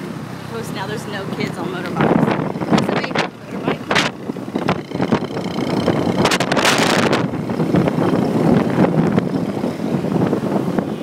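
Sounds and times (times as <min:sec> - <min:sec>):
motorbike engines running: 0:00.0 - 0:11.0
wind rush on microphone: 0:00.0 - 0:11.0.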